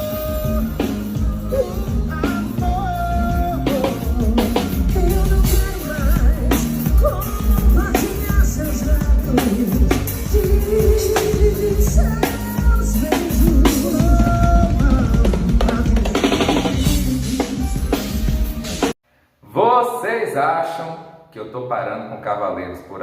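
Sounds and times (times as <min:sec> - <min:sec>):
person singing: 0:00.0 - 0:18.4
drum kit steady beat: 0:00.0 - 0:19.0.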